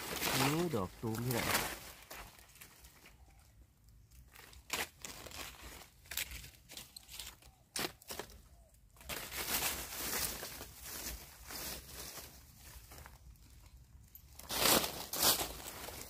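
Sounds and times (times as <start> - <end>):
dry leaves crackling and rustling: 0.0 - 3.5, 4.2 - 16.0.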